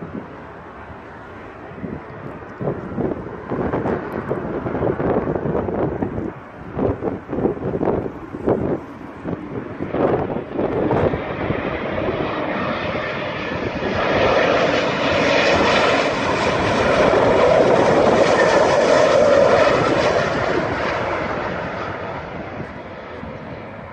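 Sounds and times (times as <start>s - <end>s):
airliner engine noise overhead: 0.0s - 23.9s
wind buffeting microphone: 0.0s - 23.9s.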